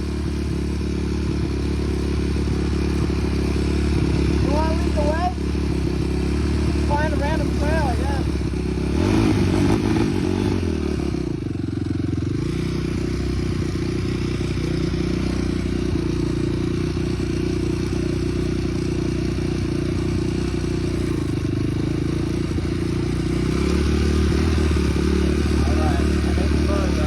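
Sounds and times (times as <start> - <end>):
small motorbike engine running: 0.0 - 27.0.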